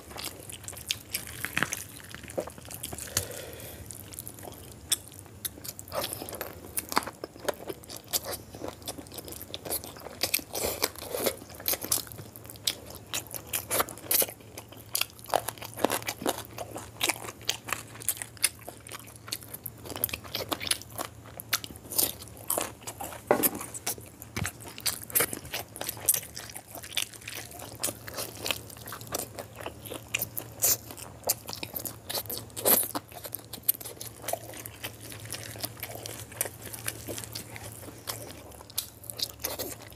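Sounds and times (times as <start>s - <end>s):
chewing with wet mouth clicks: 0.0s - 39.9s.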